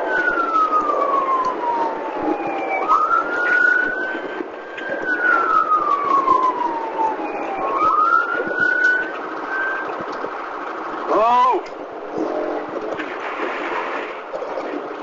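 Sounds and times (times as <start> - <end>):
police siren wailing: 0.0 - 14.8
steady rushing noise: 0.0 - 15.0.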